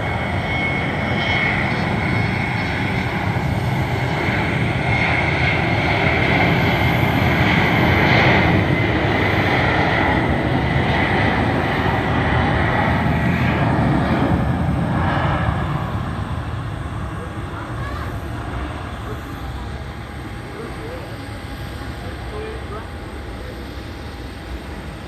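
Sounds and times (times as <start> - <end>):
airliner engines running: 0.0 - 25.0.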